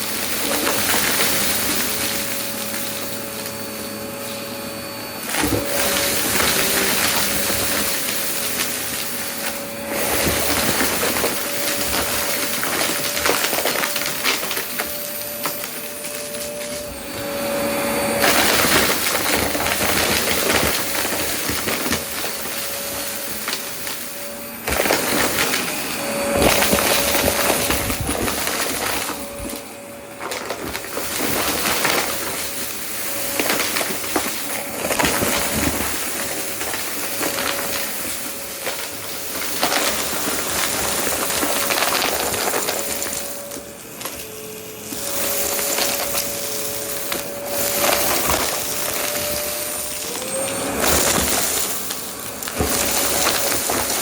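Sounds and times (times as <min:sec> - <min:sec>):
debris clicking and rattling: 0:00.0 - 0:04.4, 0:05.2 - 0:17.3, 0:18.1 - 0:54.0
vacuum cleaner motor whine: 0:00.0 - 0:54.0.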